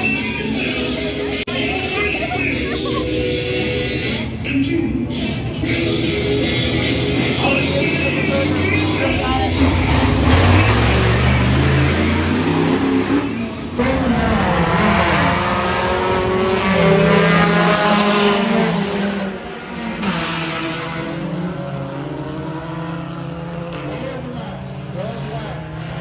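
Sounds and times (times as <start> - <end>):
race car engines revving past: 2.2 - 26.0.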